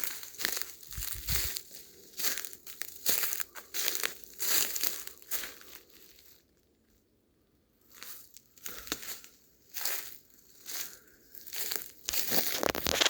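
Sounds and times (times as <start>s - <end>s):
footsteps crunching dry leaves: 0.0s - 6.4s, 7.9s - 13.0s.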